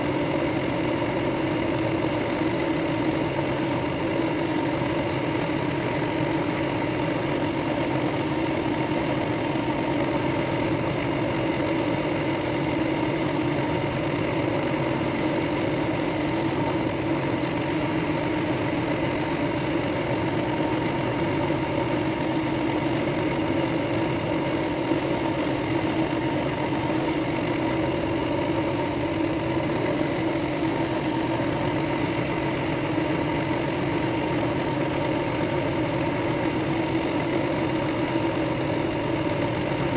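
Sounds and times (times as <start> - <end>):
drill press motor hum: 0.0 - 39.9.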